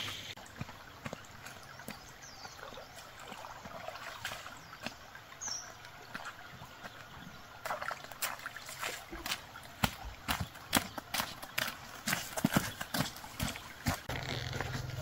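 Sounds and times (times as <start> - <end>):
stream trickling over stones: 0.0 - 15.0
footsteps splashing through water: 0.3 - 15.0.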